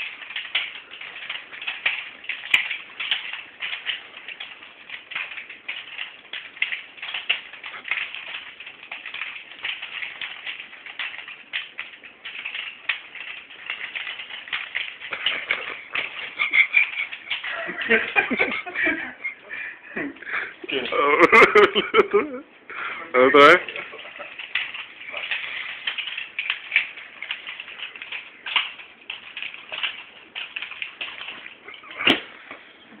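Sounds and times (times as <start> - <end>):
nunchucks swishing and clicking: 0.0 - 19.4, 23.4 - 32.7.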